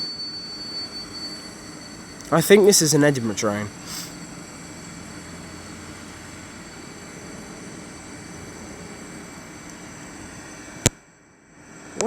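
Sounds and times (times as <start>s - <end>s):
electric train rushing past: 0.1s - 10.9s.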